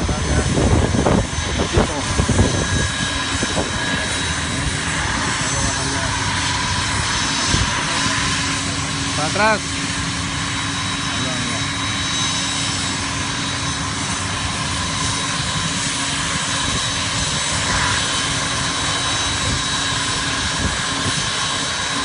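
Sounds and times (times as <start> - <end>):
aircraft engines whining: 0.0 - 22.0.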